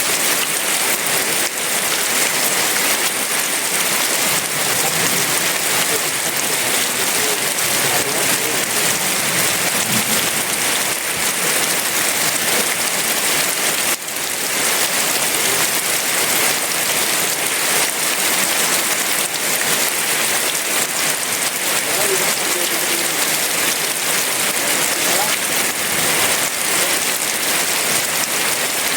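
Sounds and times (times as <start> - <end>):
heavy rain on leaves and ground: 0.0 - 28.9.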